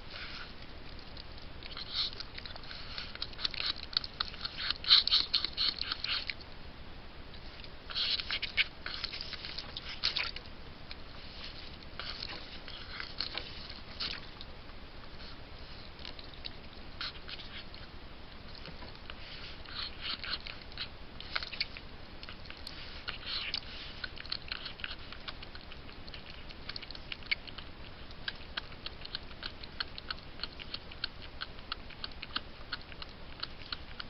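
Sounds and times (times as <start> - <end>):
animal chewing and crunching: 0.0 - 6.7, 7.3 - 34.0.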